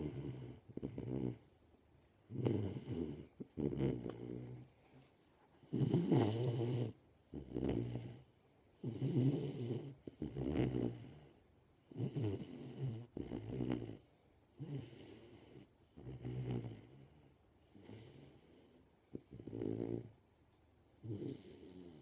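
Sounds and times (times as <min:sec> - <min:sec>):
puppy snoring: 0:00.0 - 0:01.7, 0:02.3 - 0:04.7, 0:05.6 - 0:20.2, 0:21.0 - 0:22.0.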